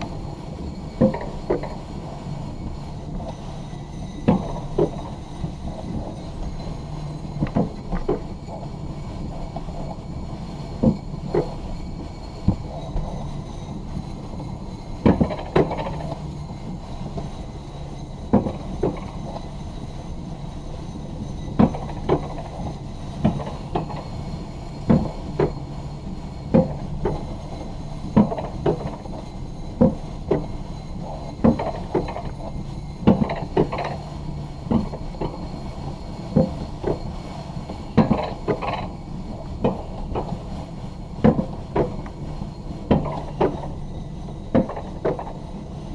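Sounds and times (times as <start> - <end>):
coaster sled rolling rumble: 0.0 - 45.9.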